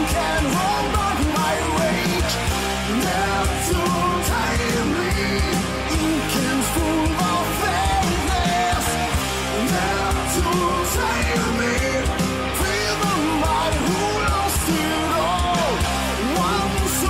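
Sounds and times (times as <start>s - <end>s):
rock song with singer: 0.0s - 17.0s.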